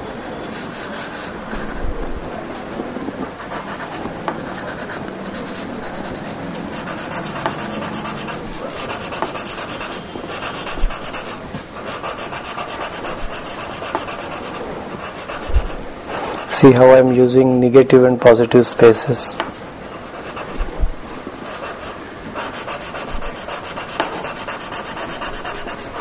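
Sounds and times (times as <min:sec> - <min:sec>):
pencil scraping on paper: 0:00.3 - 0:01.9, 0:03.2 - 0:17.4, 0:19.2 - 0:26.0.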